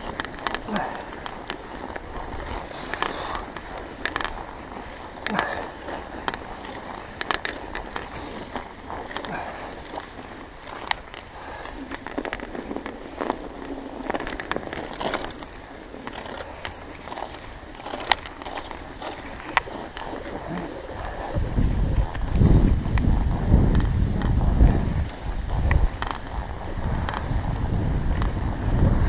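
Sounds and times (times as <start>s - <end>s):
bicycle tyres crunching on snow: 0.0s - 29.0s
bike clicks and rattles: 0.0s - 29.0s.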